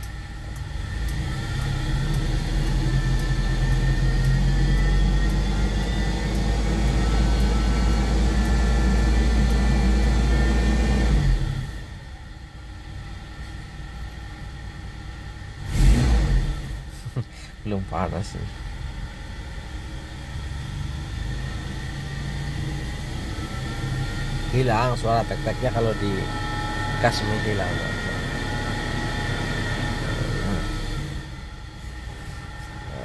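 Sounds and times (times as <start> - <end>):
petrol engine revving: 0.0 - 13.2, 13.8 - 33.0
engine idling: 0.0 - 33.0.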